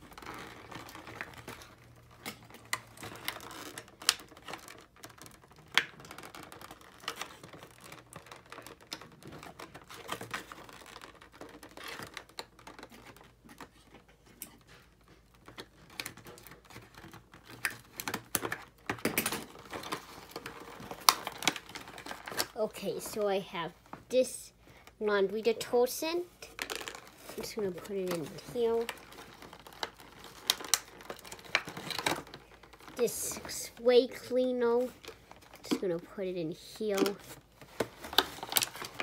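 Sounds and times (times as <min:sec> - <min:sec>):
cardboard packaging rustling: 0:00.0 - 0:25.0, 0:26.2 - 0:39.0.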